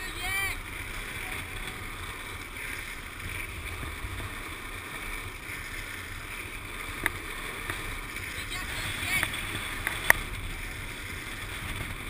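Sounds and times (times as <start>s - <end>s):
wheels rolling on asphalt: 0.0s - 12.0s
wind rush on microphone: 0.0s - 12.0s.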